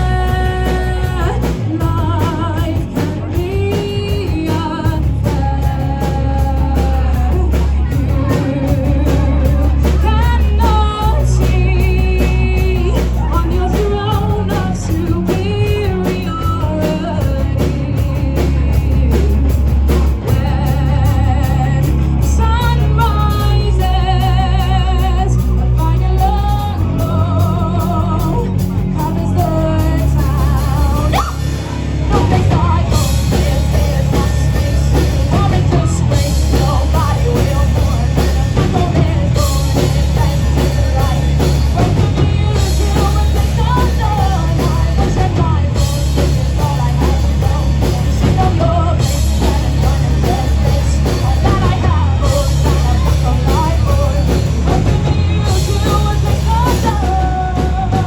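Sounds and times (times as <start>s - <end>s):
drum kit with cymbals: 0.0s - 58.0s
live rock band playing: 0.0s - 58.0s
person singing: 0.0s - 58.0s.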